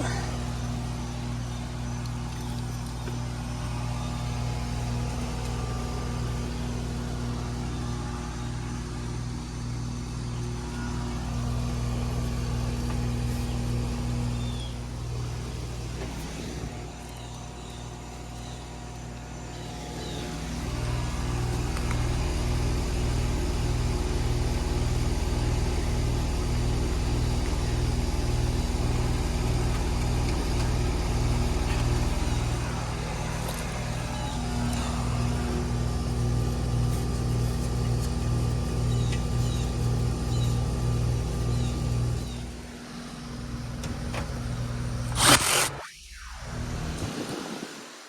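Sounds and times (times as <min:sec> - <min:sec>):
air conditioner unit humming: 0:00.0 - 0:45.7.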